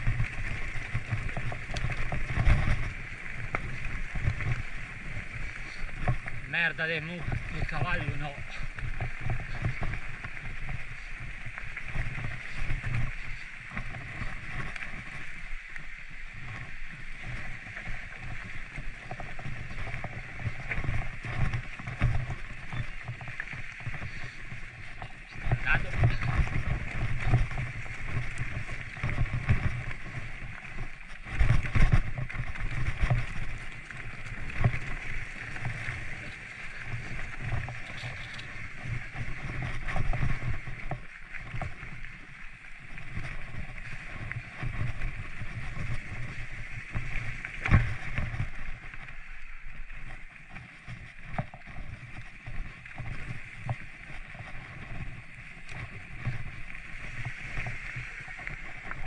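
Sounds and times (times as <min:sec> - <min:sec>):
mountain bike rumbling on trail: 0:00.0 - 0:59.0.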